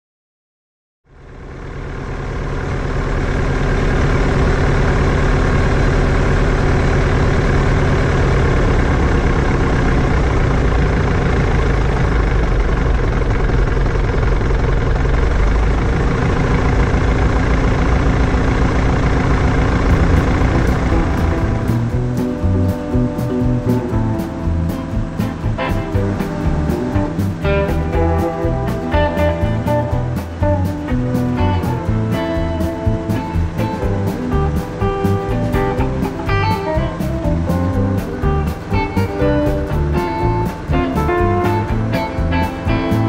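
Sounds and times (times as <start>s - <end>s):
propeller plane engine from cockpit: 1.1s - 43.0s.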